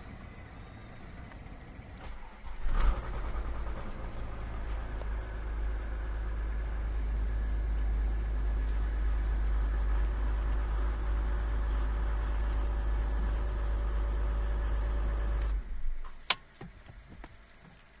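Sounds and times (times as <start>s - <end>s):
diesel engine idling: 0.0s - 16.2s.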